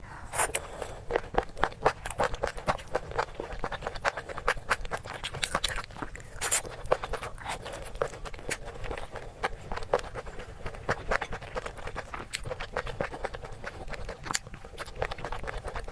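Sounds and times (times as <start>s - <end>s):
person chewing crunchy food: 0.2s - 15.9s.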